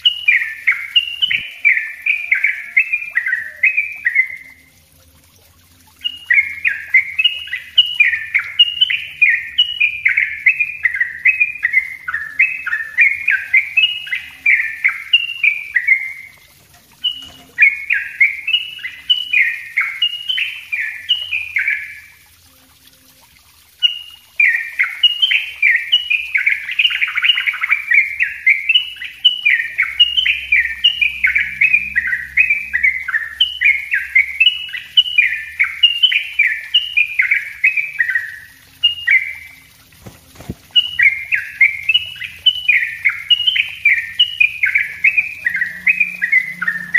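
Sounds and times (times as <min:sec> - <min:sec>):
bulbul singing fast song: 0:00.0 - 0:46.9.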